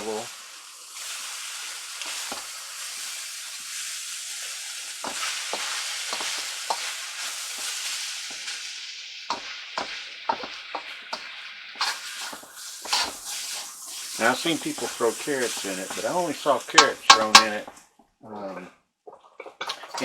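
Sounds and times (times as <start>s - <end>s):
rice sizzling in a frying pan: 0.0s - 18.1s, 19.1s - 20.0s
spatula scraping a pan: 1.0s - 17.8s, 19.1s - 20.0s.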